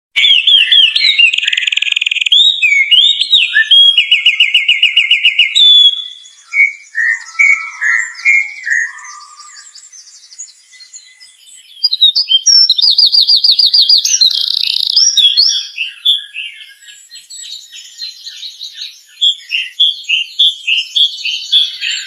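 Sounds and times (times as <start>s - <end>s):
songbird singing trills and whistles: 0.1s - 22.0s.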